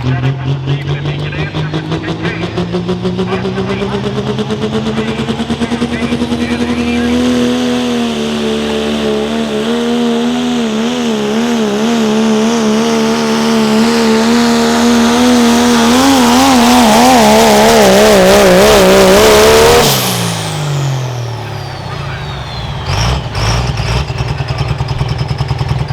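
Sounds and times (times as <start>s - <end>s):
diesel truck engine at full throttle: 0.0s - 25.9s.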